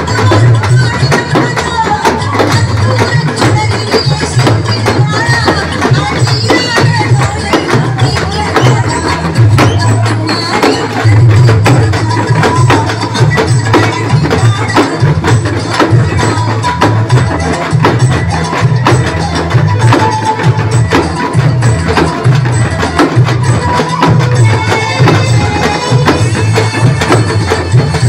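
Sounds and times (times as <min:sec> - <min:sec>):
band drumming fast rhythm: 0:00.0 - 0:28.0.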